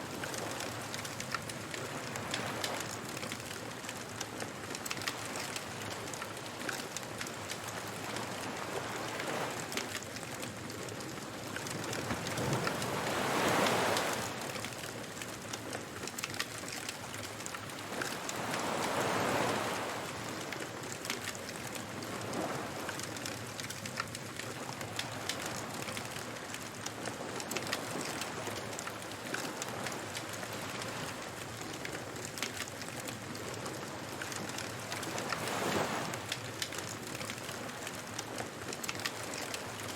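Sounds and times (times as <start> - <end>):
waves washing ashore: 0.0 - 39.9.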